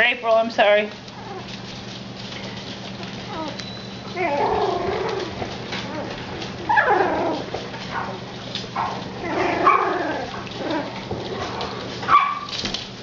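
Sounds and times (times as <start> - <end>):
puppies yipping and whining: 1.1 - 12.6.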